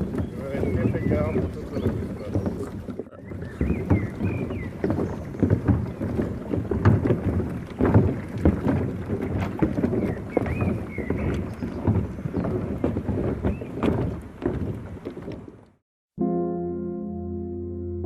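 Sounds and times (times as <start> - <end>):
wind buffeting microphone: 0.0 - 15.8.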